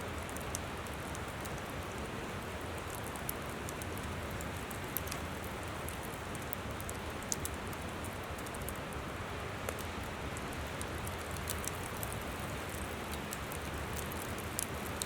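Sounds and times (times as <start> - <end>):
campfire crackling and popping: 0.1 - 15.0.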